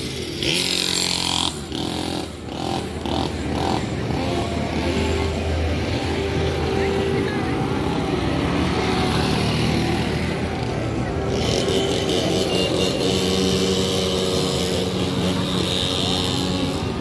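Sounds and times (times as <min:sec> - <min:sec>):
crowd noise: 0:00.0 - 0:17.0
small motor vehicle humming: 0:00.0 - 0:17.0.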